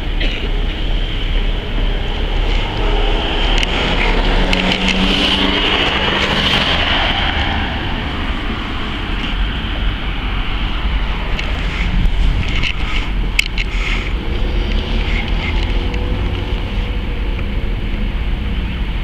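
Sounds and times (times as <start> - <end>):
street traffic rumble: 0.0 - 19.0
vehicle engine passing by: 1.0 - 19.0.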